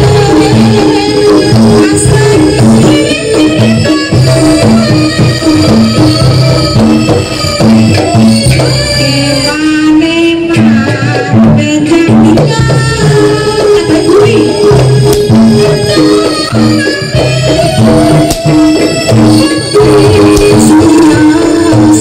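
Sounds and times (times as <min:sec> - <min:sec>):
hand drums beating: 0:00.0 - 0:09.7, 0:10.5 - 0:22.0.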